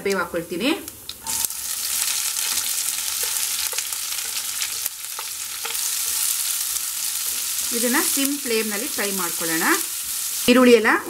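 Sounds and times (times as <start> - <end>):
onions sizzling in hot oil: 0.9 - 11.0.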